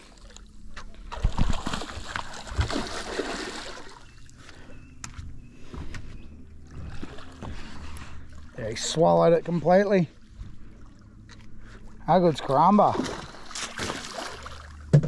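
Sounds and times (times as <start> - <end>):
water splashing beside boat: 0.0 - 15.0.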